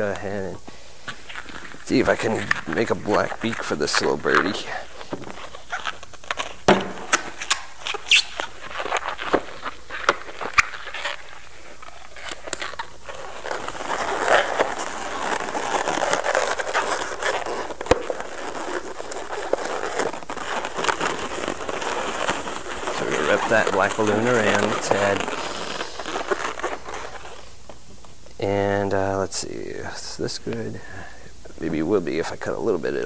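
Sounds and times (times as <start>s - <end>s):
balloons squeaking as twisted: 0.0s - 33.0s.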